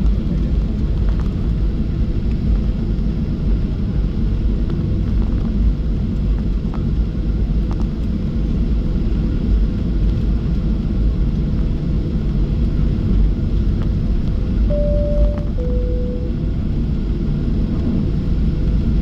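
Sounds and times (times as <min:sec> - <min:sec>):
jet engines idling in cabin: 0:00.0 - 0:16.4.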